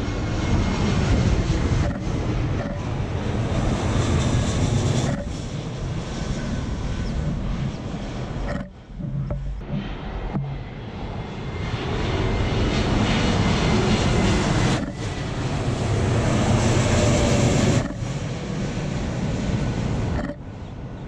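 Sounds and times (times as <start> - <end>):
jet airliner engine roar: 0.0 - 21.0.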